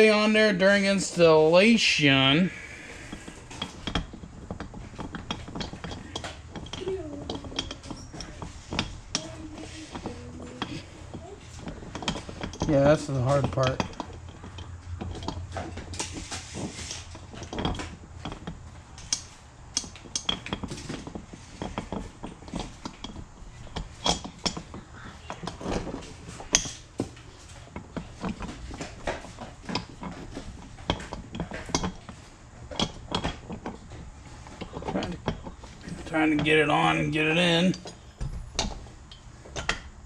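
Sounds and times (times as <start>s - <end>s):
small metal parts clinking: 3.0s - 39.9s.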